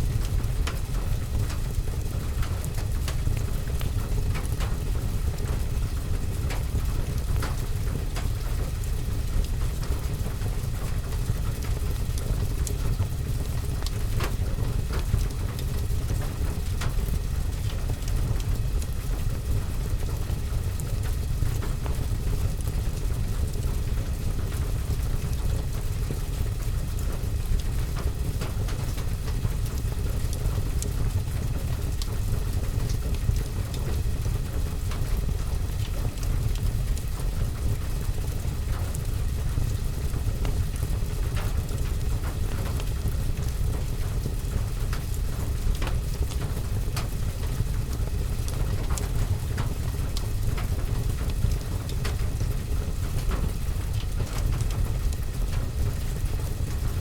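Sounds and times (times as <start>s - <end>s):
rain pattering on window and roof: 0.0s - 57.0s
wood fire crackling: 0.1s - 57.0s.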